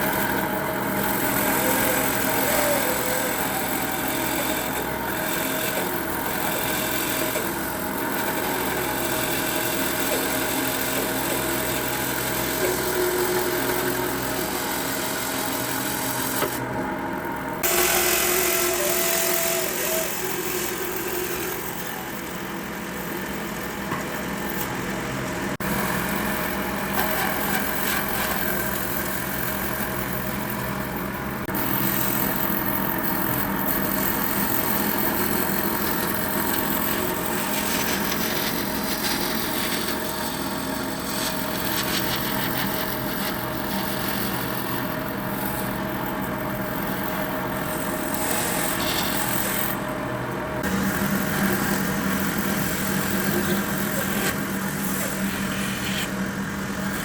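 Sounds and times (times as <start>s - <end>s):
power tool sawing wood: 0.0s - 16.8s, 17.5s - 23.4s, 25.5s - 30.7s, 31.4s - 49.9s, 50.6s - 57.0s
motor running: 0.0s - 57.0s.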